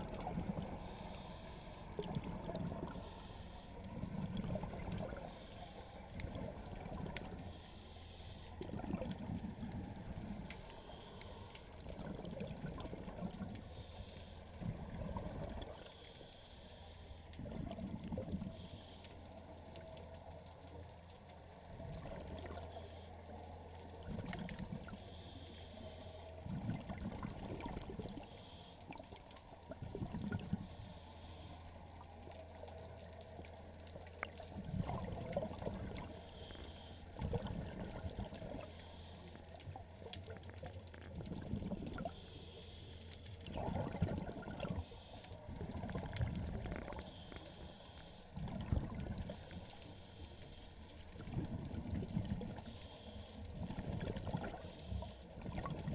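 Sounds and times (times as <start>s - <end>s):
muffled underwater gurgling: 0.0s - 20.9s, 21.6s - 55.9s.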